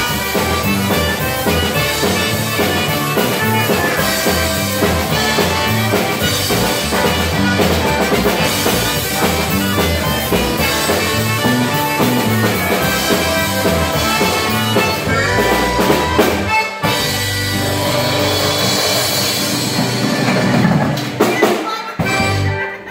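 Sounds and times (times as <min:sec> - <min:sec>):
button accordion: 0:00.0 - 0:19.7, 0:21.2 - 0:22.9
pedal steel guitar: 0:00.0 - 0:20.0
acoustic guitar: 0:00.0 - 0:21.0
bass: 0:00.0 - 0:22.9
drum kit: 0:00.0 - 0:22.9.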